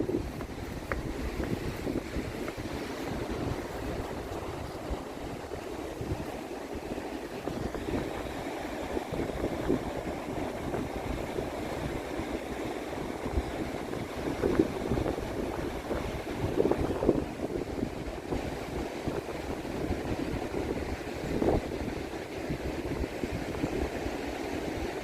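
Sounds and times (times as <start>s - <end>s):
waves on the shore: 0.0s - 25.0s
wind buffeting microphone: 0.0s - 25.0s.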